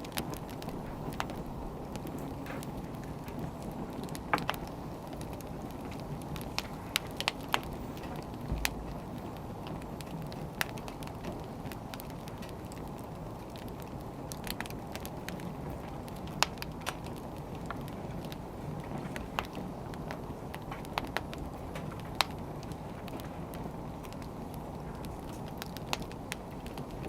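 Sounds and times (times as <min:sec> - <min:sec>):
fire low rustle: 0:00.0 - 0:27.0
firewood crackles and pops: 0:00.0 - 0:27.0.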